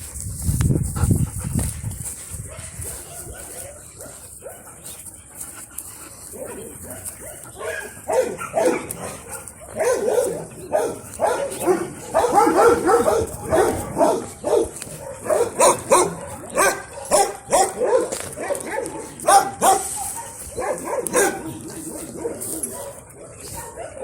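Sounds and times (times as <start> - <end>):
dogs barking and yipping: 0.0 - 24.0.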